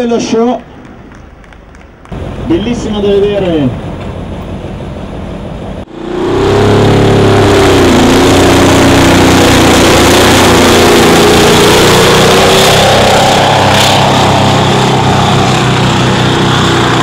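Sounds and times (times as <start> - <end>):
diesel truck engine under load: 0.6 - 17.0.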